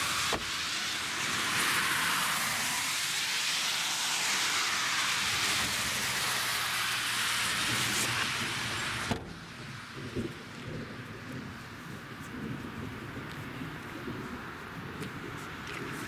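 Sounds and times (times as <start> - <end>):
car tyres hissing on wet road: 0.0 - 16.0.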